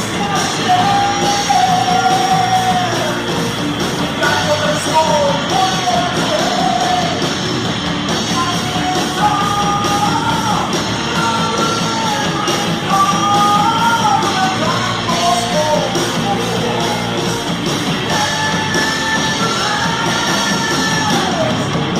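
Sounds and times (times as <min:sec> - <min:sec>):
heavy metal band playing: 0:00.0 - 0:21.9.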